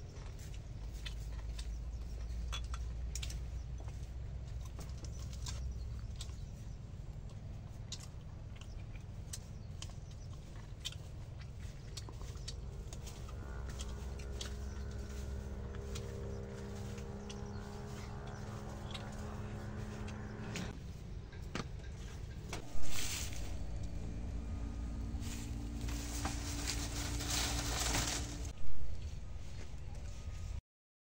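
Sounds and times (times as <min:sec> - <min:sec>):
motor hum: 0:00.0 - 0:30.6.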